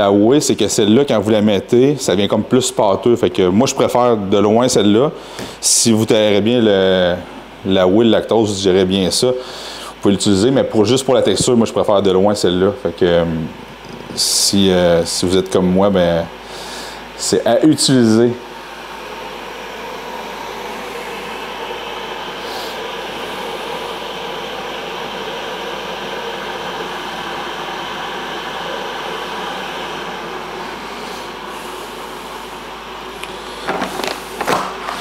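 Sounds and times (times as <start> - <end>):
kettle heating water: 0.0 - 35.0.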